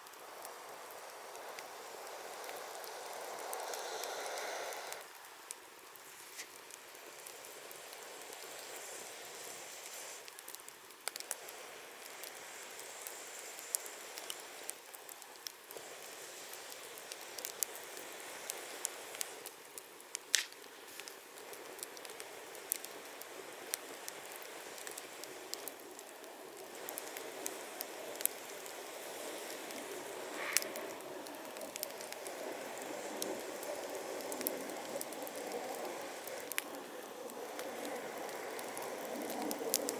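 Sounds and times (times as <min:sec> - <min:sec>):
campfire crackling and popping: 0:00.0 - 0:39.9
campfire hiss: 0:00.0 - 0:39.9.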